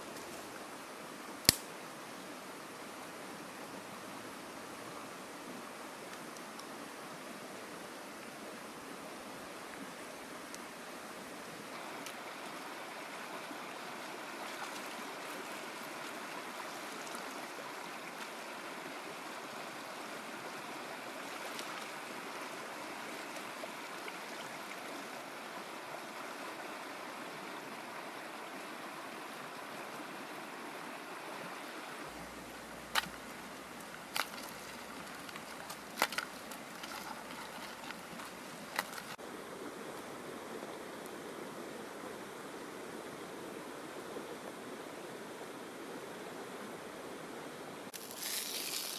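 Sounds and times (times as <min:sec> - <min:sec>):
stream water rushing: 0:00.0 - 0:47.0, 0:47.7 - 0:48.9.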